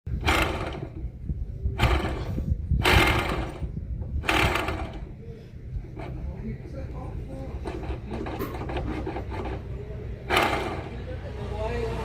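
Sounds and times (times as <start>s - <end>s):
car rumbling: 0.1s - 12.0s
harsh scraping noises: 0.1s - 12.0s.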